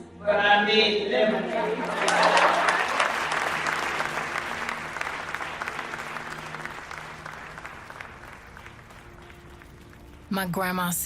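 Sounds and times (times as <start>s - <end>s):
crowd applauding: 1.3s - 11.0s.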